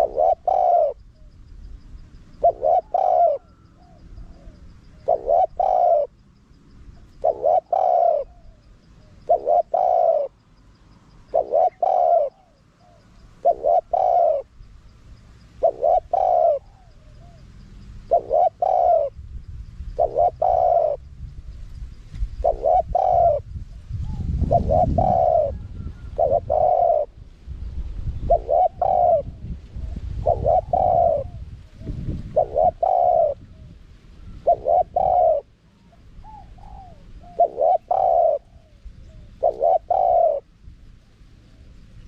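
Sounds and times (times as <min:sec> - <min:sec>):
dove cooing: 0:00.0 - 0:01.4, 0:02.1 - 0:06.2, 0:07.0 - 0:10.4, 0:11.2 - 0:14.6, 0:15.5 - 0:19.2, 0:19.9 - 0:21.1, 0:22.3 - 0:27.3, 0:28.1 - 0:41.8.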